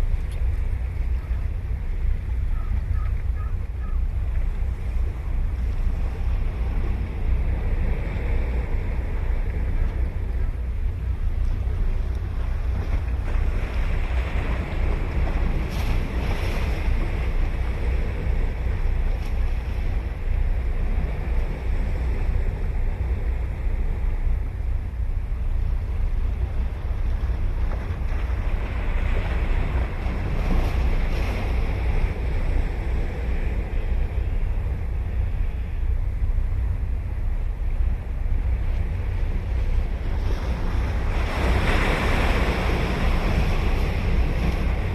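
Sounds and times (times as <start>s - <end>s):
ocean waves breaking: 0.0s - 44.9s
wind rumble on microphone: 0.0s - 44.9s.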